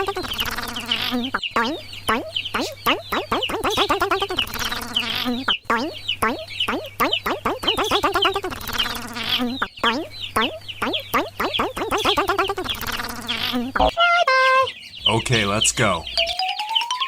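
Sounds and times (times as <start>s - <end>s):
chicken squawking: 0.0s - 16.4s
chicken clucking: 0.0s - 16.9s.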